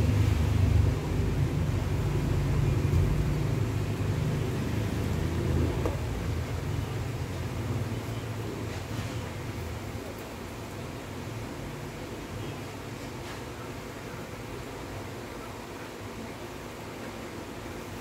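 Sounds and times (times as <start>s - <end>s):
electric fan rumbling: 0.0s - 18.0s.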